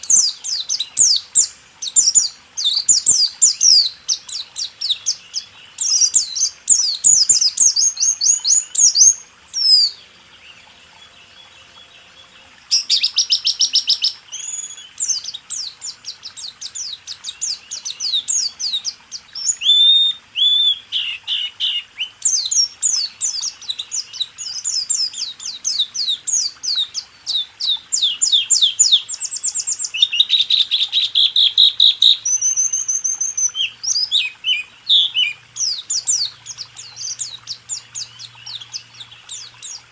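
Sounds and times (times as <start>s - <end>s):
bird singing rapid high chirps: 0.0s - 10.0s, 12.7s - 39.9s.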